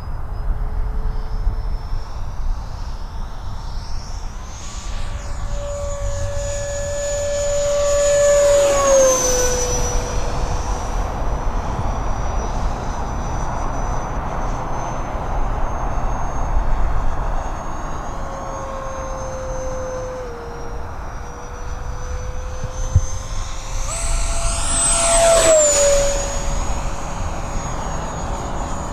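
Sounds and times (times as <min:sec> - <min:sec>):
model jet fan motor whining: 0:00.0 - 0:28.9.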